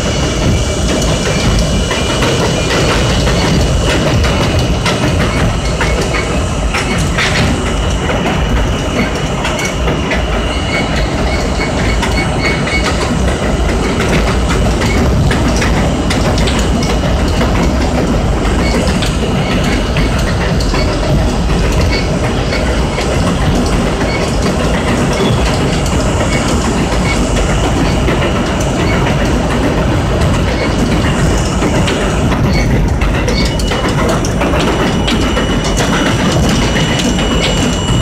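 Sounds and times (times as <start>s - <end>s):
rail joint clacks: 0.0s - 38.0s
subway car wheels rumbling: 0.0s - 38.0s.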